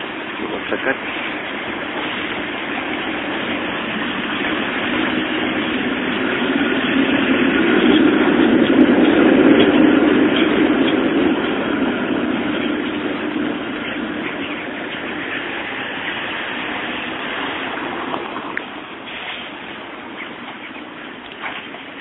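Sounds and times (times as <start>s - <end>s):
tram running on rails: 0.0s - 22.0s.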